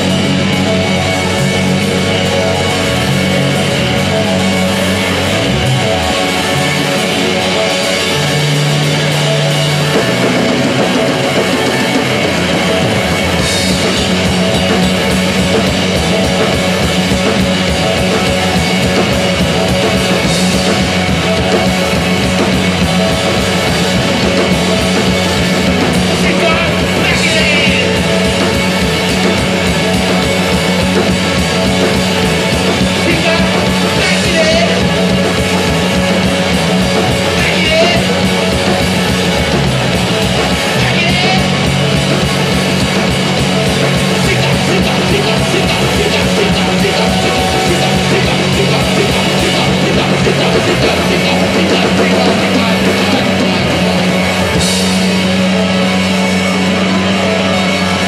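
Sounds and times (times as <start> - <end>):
live rock band playing: 0.0 - 58.0
person singing: 0.0 - 58.0.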